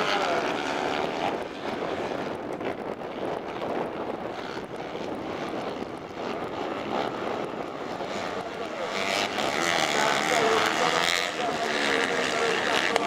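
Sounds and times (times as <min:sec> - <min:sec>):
racing buggy engines: 0:00.0 - 0:13.0.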